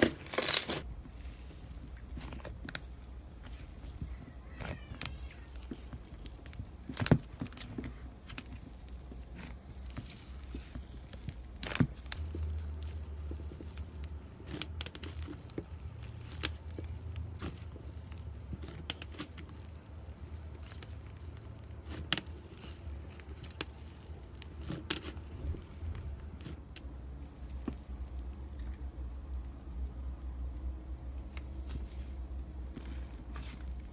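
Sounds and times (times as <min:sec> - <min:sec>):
crunchy slime crackling and popping: 0:00.0 - 0:33.9
low steady hum: 0:00.0 - 0:33.9.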